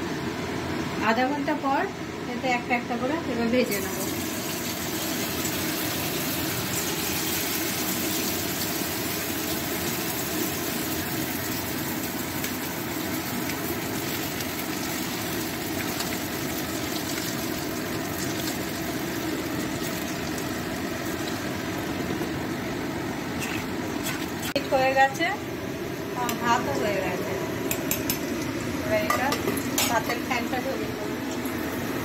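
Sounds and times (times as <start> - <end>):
chicken deep-frying in hot oil: 3.3 - 32.0.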